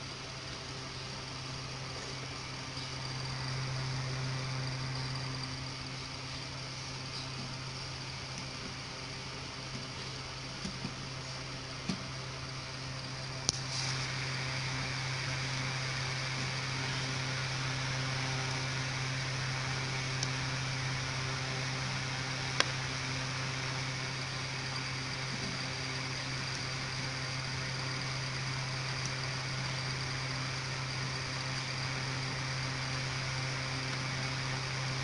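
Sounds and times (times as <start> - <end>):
low hum and hiss: 0.0 - 35.0.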